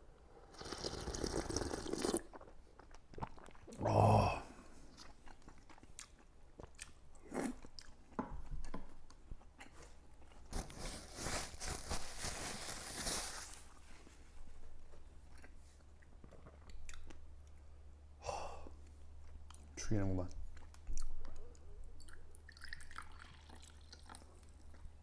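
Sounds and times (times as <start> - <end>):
person chewing and crunching food: 0.4 - 11.9, 13.6 - 17.8, 20.4 - 25.0.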